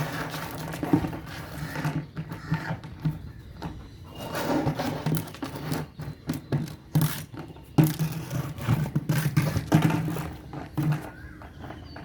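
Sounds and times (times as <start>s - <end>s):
puppy playing with knocks and scrapes: 0.0s - 12.0s.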